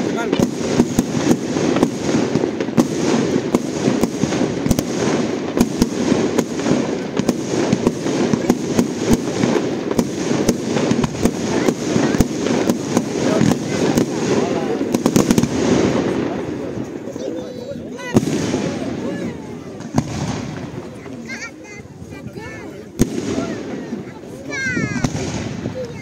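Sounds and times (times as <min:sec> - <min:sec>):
fireworks bangs and pops: 0:00.0 - 0:26.0.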